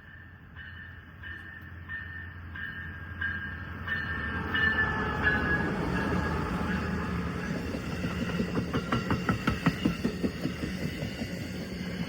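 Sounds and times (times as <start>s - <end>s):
diesel train rumbling: 0.0s - 12.0s
train bell ringing: 0.0s - 12.0s.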